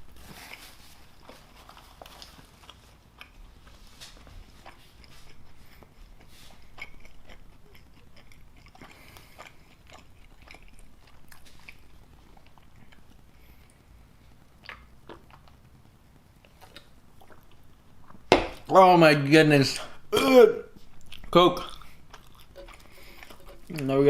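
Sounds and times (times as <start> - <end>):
person chewing food: 0.0 - 18.7, 20.7 - 24.0.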